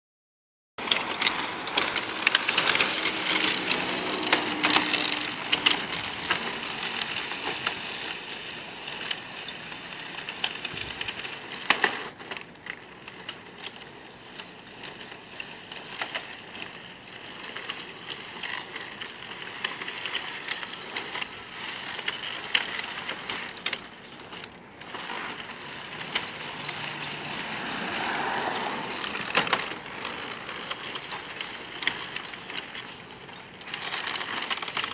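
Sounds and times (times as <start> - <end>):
plastic parts clattering on pavement: 0.8 - 34.9
rc vehicle drive whirring: 0.8 - 34.9.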